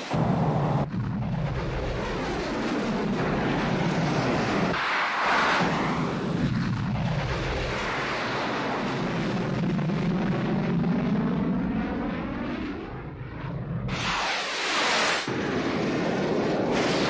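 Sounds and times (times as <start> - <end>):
jet aircraft flying past: 1.9 - 17.0.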